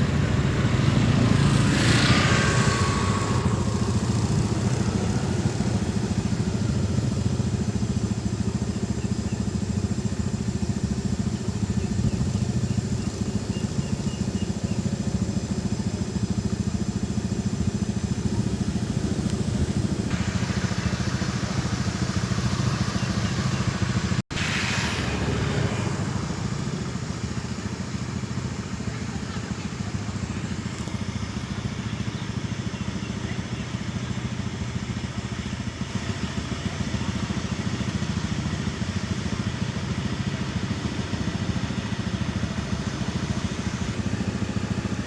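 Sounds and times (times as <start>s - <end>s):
small engine running: 0.0s - 45.0s.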